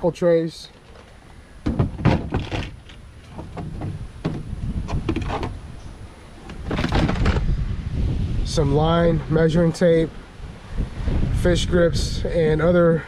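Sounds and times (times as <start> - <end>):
wind on microphone: 1.8 - 13.0.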